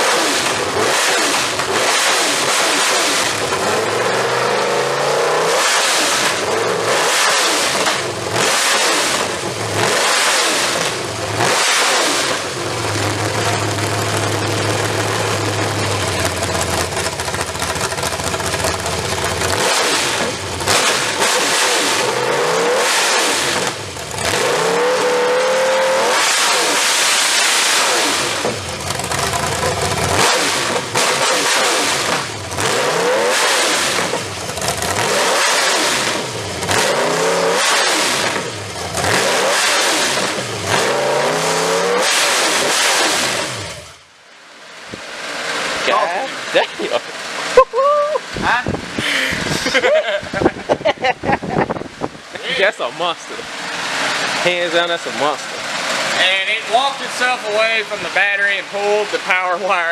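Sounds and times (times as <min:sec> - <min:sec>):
engine revving: 0:00.0 - 0:44.2, 0:48.2 - 0:59.9.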